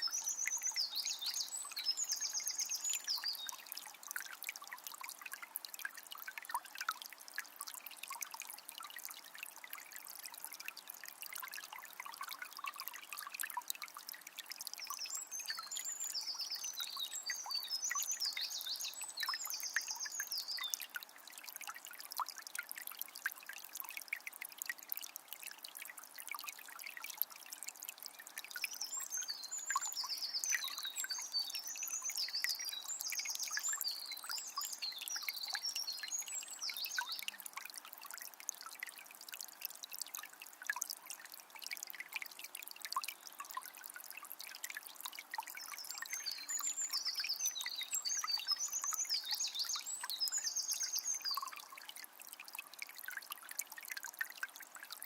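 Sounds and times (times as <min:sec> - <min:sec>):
spring water trickling: 0:00.0 - 0:55.0.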